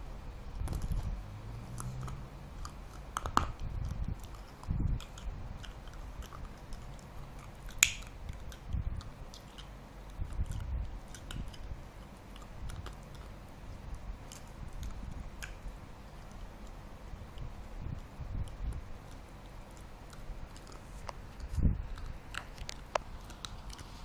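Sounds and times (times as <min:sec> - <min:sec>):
puppy chewing plastic cap: 0:01.7 - 0:24.0.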